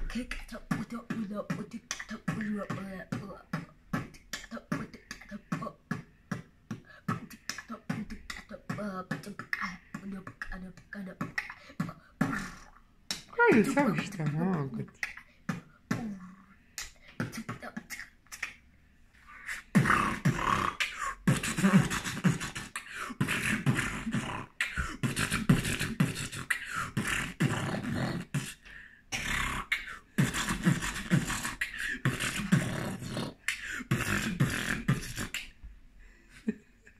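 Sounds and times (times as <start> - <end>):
boy beatboxing: 0.0 - 18.7, 19.3 - 35.7.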